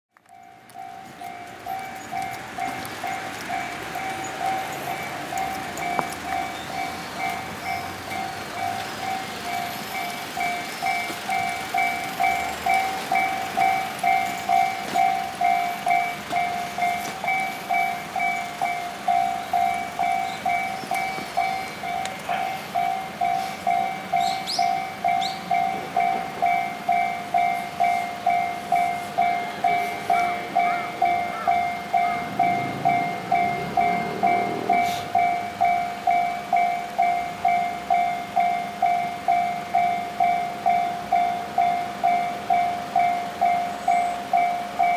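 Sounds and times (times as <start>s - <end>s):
level-crossing warning bell: 0.1s - 44.9s.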